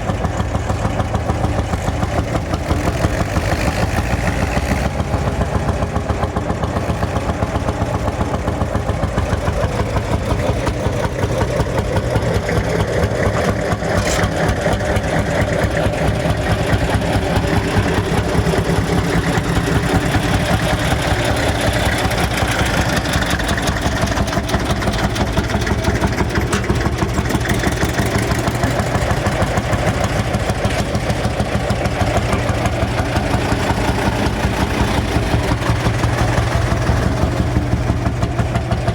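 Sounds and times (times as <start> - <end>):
tractor engine thumping: 0.0 - 38.9.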